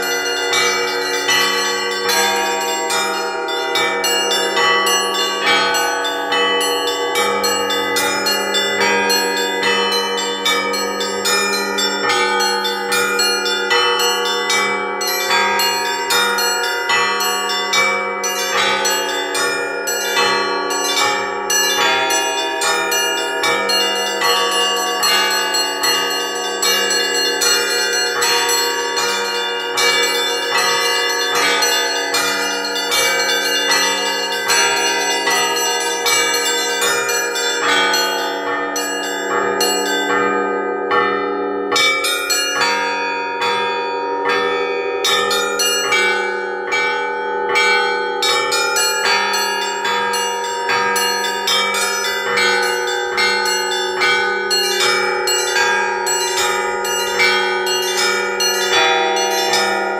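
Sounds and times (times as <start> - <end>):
large bells humming: 0.0 - 59.9
small church bells ringing quickly: 0.0 - 59.9.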